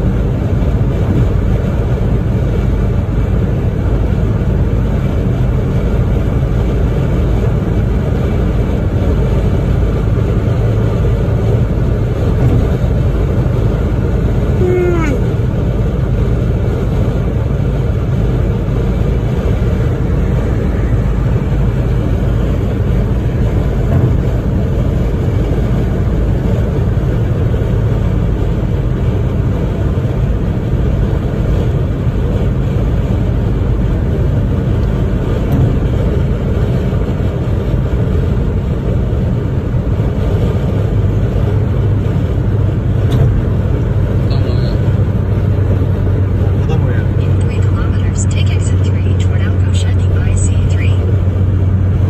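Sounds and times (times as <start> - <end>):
car cabin road noise: 0.0 - 52.0.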